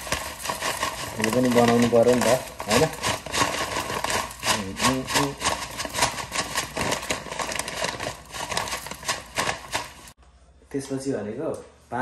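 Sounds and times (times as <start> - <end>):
lentils pattering into plastic container: 0.0 - 10.2
plastic bag crinkling: 0.0 - 10.2.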